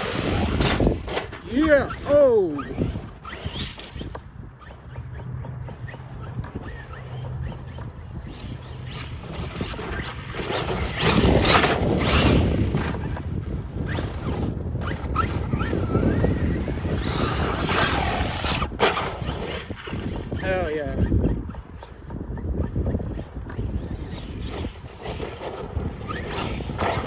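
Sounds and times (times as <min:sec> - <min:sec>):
tyres churning over dirt: 0:00.0 - 0:22.2, 0:23.3 - 0:27.0
electric motor whining: 0:00.0 - 0:27.0
tyres squealing and scuffing: 0:00.0 - 0:27.0.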